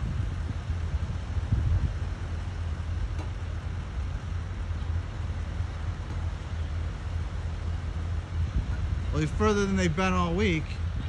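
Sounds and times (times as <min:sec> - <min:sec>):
excavator engine rumble: 0:00.0 - 0:11.0.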